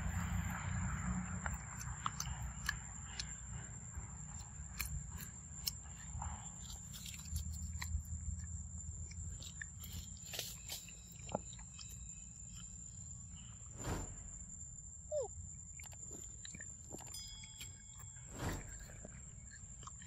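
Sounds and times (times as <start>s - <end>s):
monkey chewing fruit: 1.2s - 12.9s, 15.1s - 20.0s.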